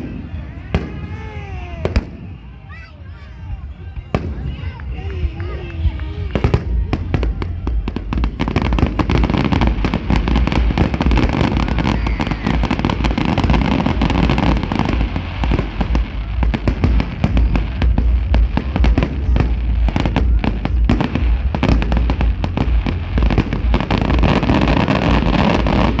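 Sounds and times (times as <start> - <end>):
fireworks bangs and crackles: 0.0 - 26.0
low rumble of fireworks: 0.0 - 26.0.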